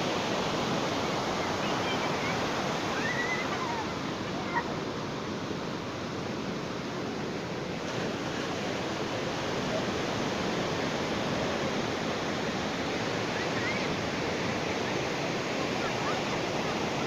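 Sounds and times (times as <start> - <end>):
ocean surf washing onto beach: 0.0 - 17.0.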